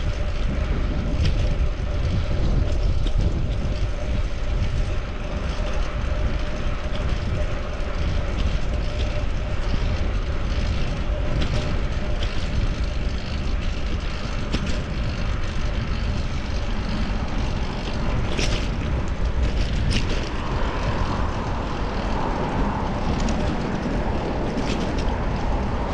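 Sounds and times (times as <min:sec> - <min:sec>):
passing city traffic: 0:00.0 - 0:25.9
wind and road noise: 0:00.0 - 0:25.9.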